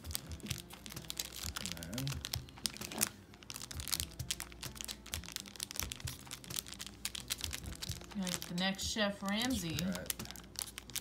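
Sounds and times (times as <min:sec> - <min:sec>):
plastic package crinkling: 0:00.0 - 0:11.0.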